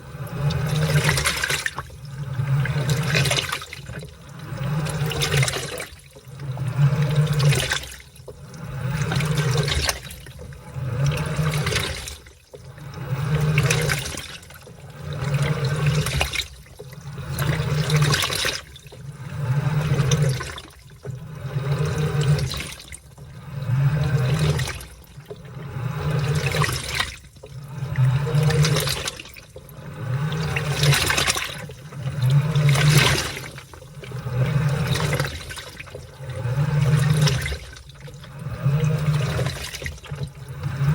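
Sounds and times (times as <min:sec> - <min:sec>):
drive motor hum: 0:00.0 - 0:40.9
washing machine sloshing water: 0:00.0 - 0:40.9.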